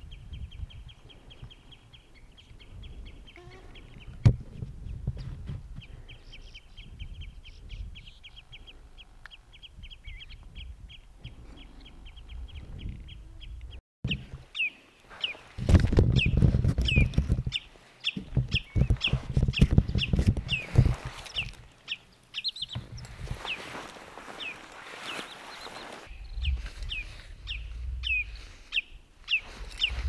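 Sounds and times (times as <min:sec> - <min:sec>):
wind buffeting microphone: 0:00.0 - 0:08.8, 0:09.4 - 0:14.5, 0:15.6 - 0:21.7, 0:22.6 - 0:23.8, 0:25.0 - 0:30.0.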